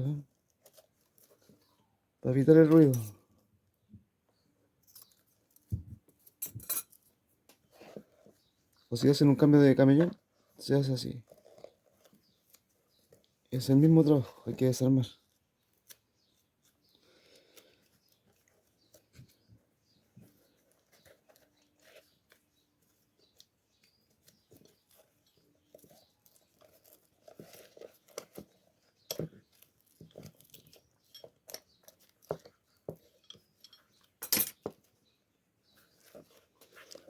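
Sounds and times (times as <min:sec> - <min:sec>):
clicks and rustles from handling: 0:00.2 - 0:01.9, 0:04.8 - 0:37.0.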